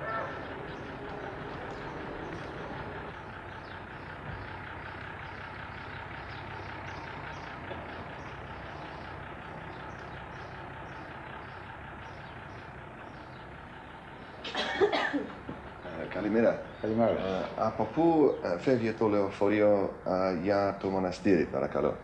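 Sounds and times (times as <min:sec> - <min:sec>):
traffic noise: 0:00.0 - 0:22.0
vehicle engine running: 0:00.0 - 0:22.0.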